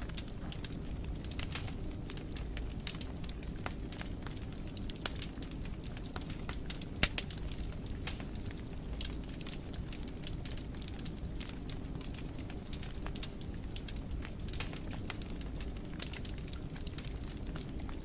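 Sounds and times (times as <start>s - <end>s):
fire crackling in a fireplace: 0.0s - 18.0s.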